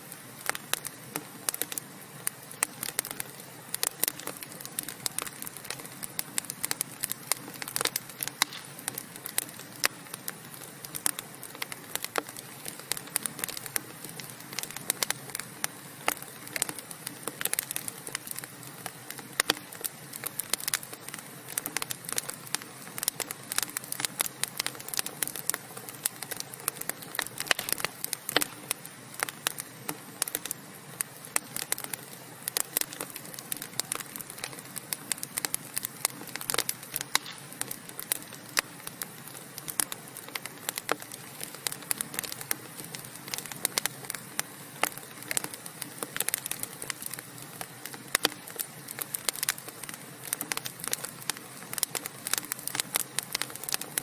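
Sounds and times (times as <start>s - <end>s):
hiss of burning logs: 0.0s - 54.0s
wood fire crackling: 0.0s - 54.0s.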